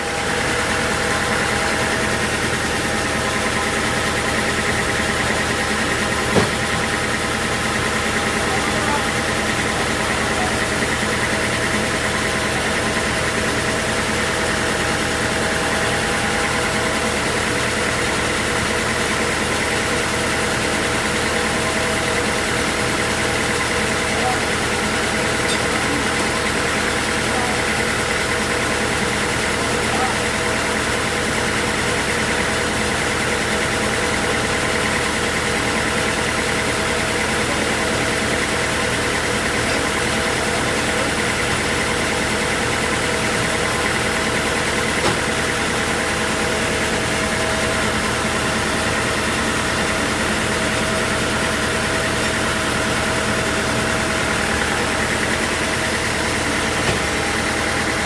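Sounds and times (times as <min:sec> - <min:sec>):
high-pitched machine whine: 0:00.0 - 0:58.0
sawmill machinery drone: 0:00.0 - 0:58.0.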